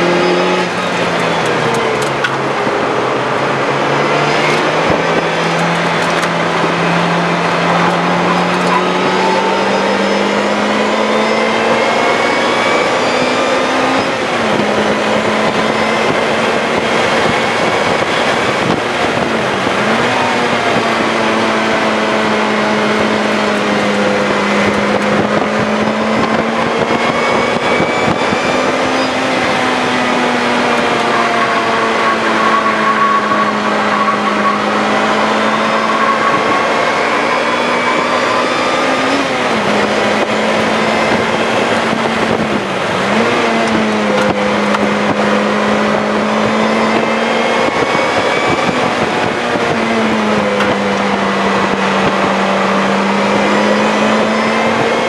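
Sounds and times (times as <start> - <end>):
car engine accelerating: 0.0 - 55.0
wind and road noise: 0.0 - 55.0.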